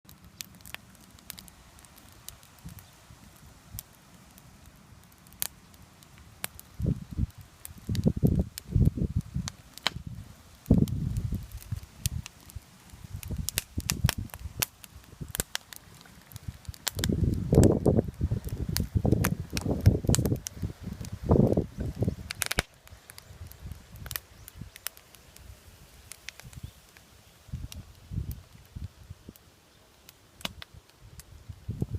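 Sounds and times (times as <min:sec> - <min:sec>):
campfire crackling and popping: 0:00.1 - 0:31.9.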